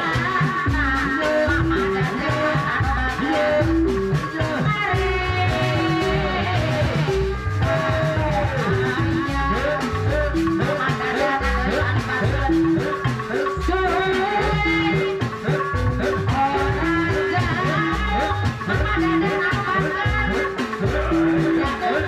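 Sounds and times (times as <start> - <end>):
hand drums beating rhythm: 0.0 - 22.0.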